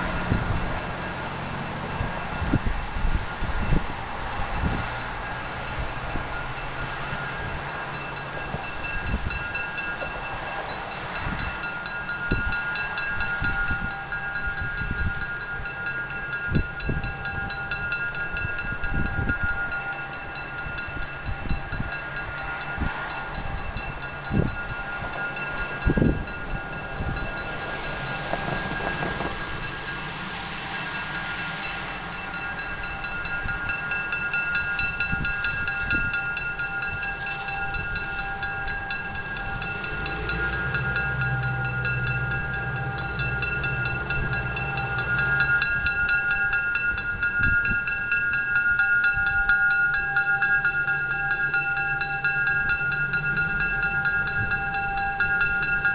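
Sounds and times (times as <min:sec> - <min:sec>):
diesel locomotive engine: 0:00.0 - 0:55.9
steady whine: 0:00.0 - 0:55.9.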